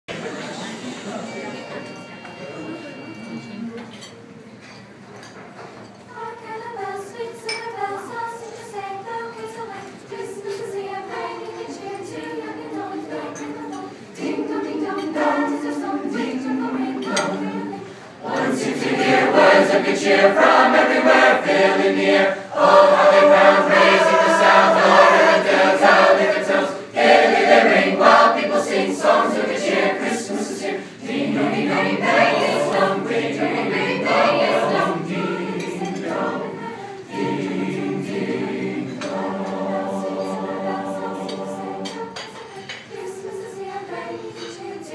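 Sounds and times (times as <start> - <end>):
choir singing in parts: 6.1 - 44.9.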